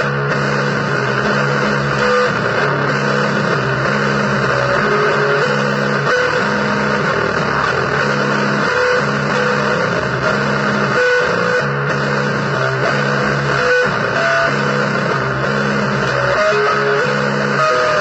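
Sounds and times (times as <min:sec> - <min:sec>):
electric guitar playing blues: 0:00.0 - 0:18.0.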